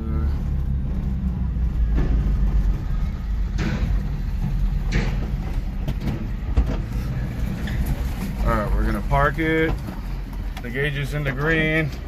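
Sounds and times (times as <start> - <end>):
small truck engine rumbling: 0.0 - 12.0.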